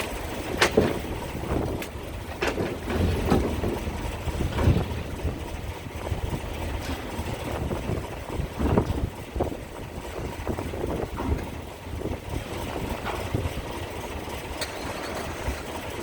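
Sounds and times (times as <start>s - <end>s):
low rumble of ferry engines: 0.0s - 16.0s
wind buffeting microphone: 0.0s - 16.0s
sharp thumps from gusts: 0.5s - 13.8s.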